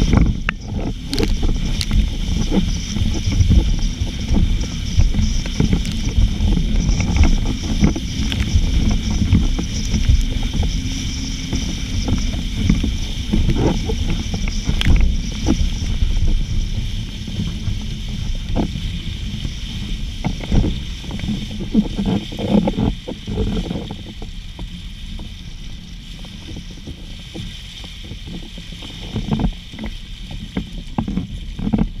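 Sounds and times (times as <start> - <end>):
gusty wind buffeting microphone: 0.0 - 32.0.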